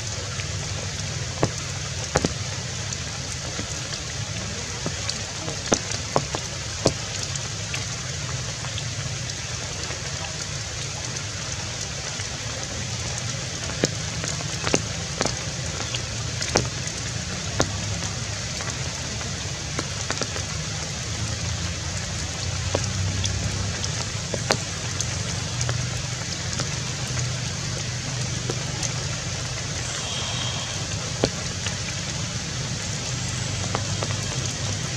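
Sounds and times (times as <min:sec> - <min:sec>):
rain falling on foliage: 0:00.0 - 0:34.9.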